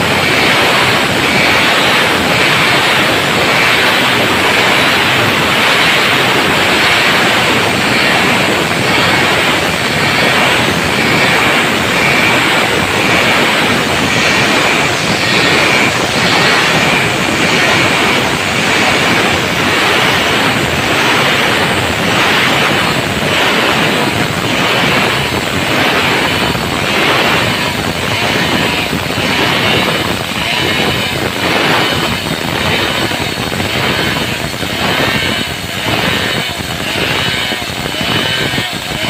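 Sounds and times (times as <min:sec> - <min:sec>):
chainsaw cutting log: 0:00.0 - 0:39.0.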